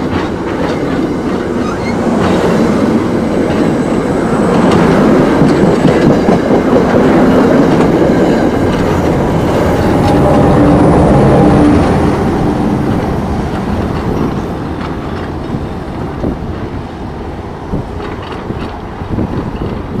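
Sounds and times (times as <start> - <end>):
train passing close by: 0.0 - 20.0.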